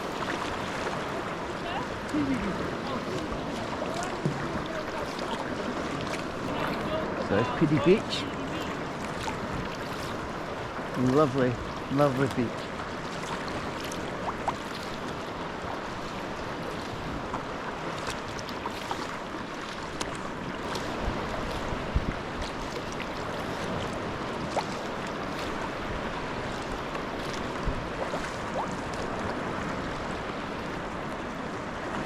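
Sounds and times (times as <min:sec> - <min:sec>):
kayak paddle splashing water: 0:00.0 - 0:32.0.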